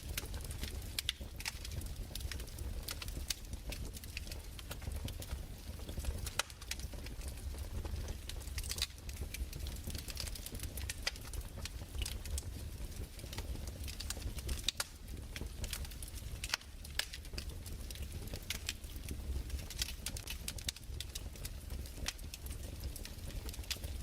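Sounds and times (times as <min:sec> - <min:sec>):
fireplace crackling: 0:00.0 - 0:24.0.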